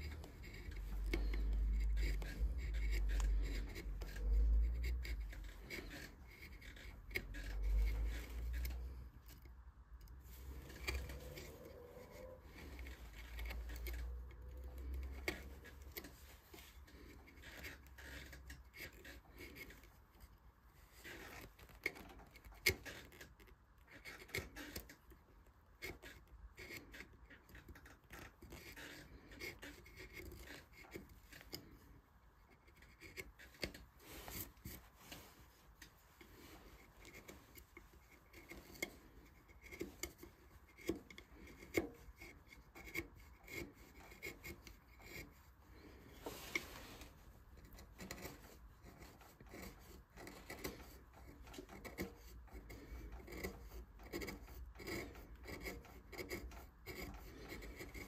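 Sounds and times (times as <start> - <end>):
carving tools scraping wood: 0.0 - 58.0.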